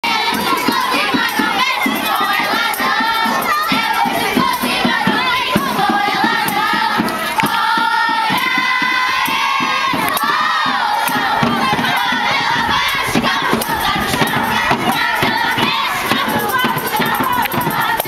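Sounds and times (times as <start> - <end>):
group of voices singing: 0.0 - 18.0
steady beat: 0.0 - 18.0.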